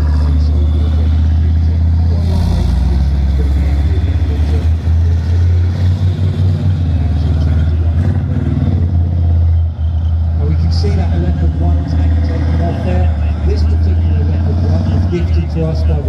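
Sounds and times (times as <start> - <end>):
tracked vehicle diesel engine: 0.0 - 16.0.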